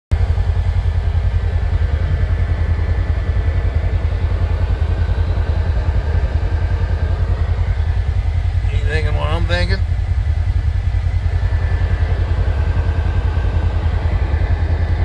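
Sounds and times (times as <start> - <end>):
vehicle engine running: 0.1 - 15.0.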